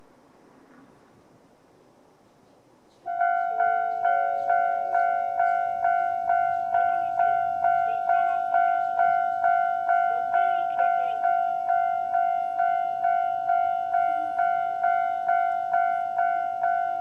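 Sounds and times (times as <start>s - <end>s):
level crossing electronic bell: 3.1s - 17.0s.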